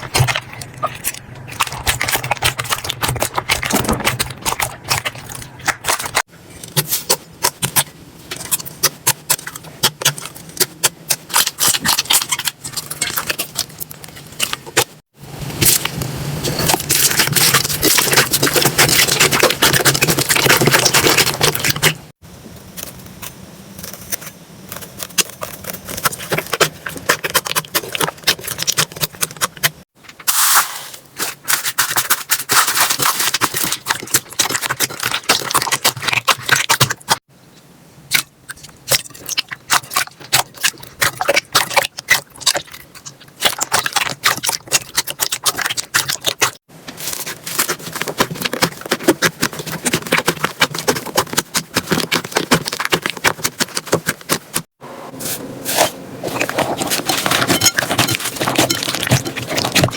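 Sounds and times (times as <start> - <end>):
slime squelching and crackling: 0.0 - 37.3, 38.1 - 54.8, 55.7 - 59.9.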